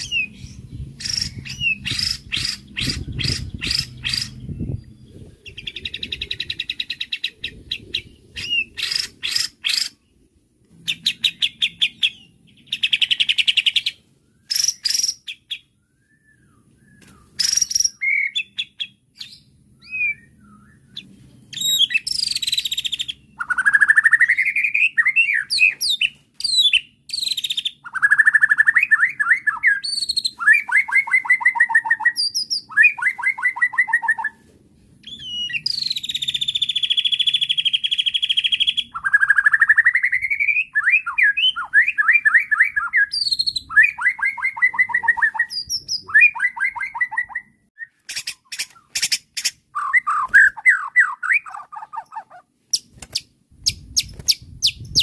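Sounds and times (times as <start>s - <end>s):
songbird singing varied song: 0.0s - 34.4s, 35.0s - 55.0s.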